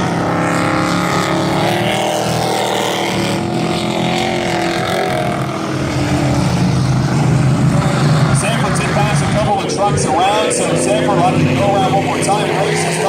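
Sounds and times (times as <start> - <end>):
truck engines racing: 0.0 - 13.0.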